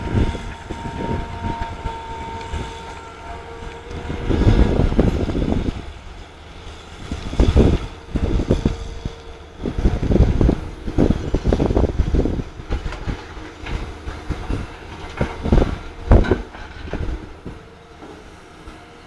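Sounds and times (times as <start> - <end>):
excavator clanks: 0.0 - 19.0
excavator diesel engine labouring: 0.0 - 19.0.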